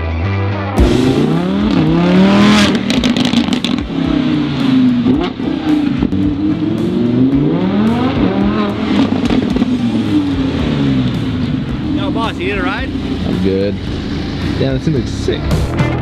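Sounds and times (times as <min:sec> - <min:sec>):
car engine revving: 0:00.8 - 0:16.0
exhaust crackles: 0:00.8 - 0:16.0.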